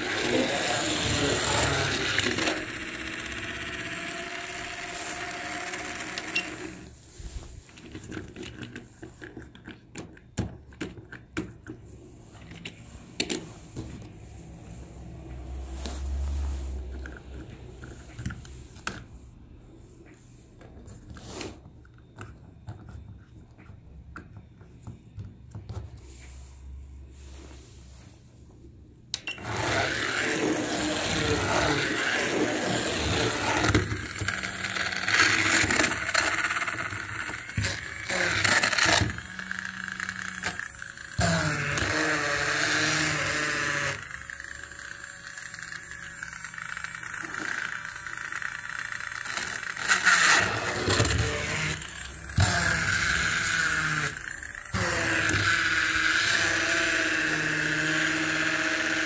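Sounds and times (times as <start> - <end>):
electric toy whirring and rattling: 0.0 - 10.2, 11.9 - 19.2, 29.2 - 59.0.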